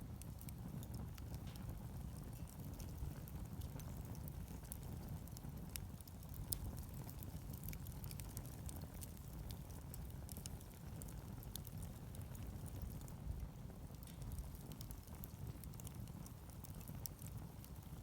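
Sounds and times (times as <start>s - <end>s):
bonfire crackling and popping: 0.0s - 18.0s
low fire rumble: 0.0s - 18.0s.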